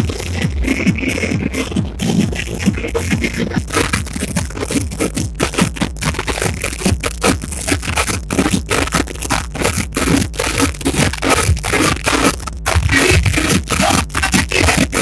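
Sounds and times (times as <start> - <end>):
loud distorted music: 0.0 - 15.0
scraping and crackling noise: 0.0 - 15.0.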